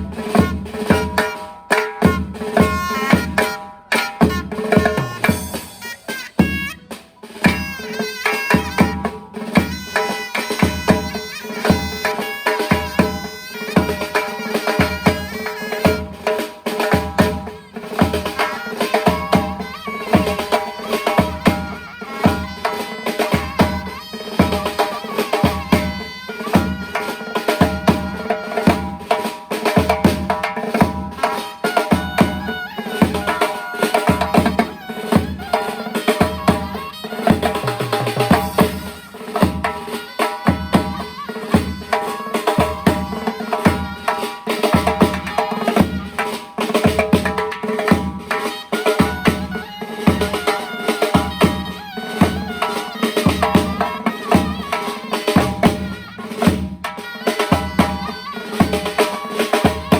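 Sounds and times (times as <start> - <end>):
drum beat: 0.0 - 59.9
shawm playing folk melody: 0.0 - 59.9.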